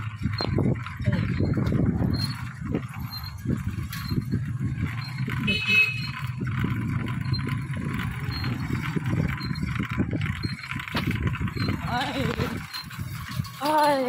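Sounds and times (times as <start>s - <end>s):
wind buffeting microphone: 0.0s - 13.6s.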